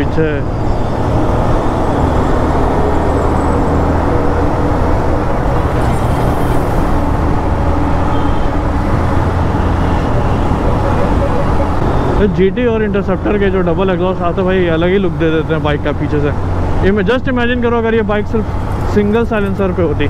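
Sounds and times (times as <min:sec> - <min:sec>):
motorcycle engine cruising: 0:00.0 - 0:17.1.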